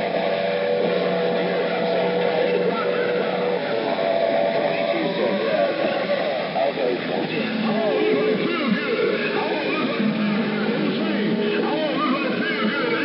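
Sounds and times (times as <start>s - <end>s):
garbled radio voices: 0.0s - 13.0s
radio hiss: 0.0s - 13.0s
warbling radio tones: 0.0s - 13.0s.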